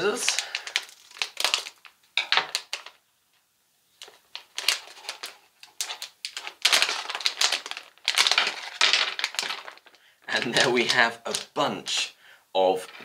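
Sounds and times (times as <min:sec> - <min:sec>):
plastic bag crinkling: 0:00.0 - 0:03.0, 0:04.0 - 0:12.0.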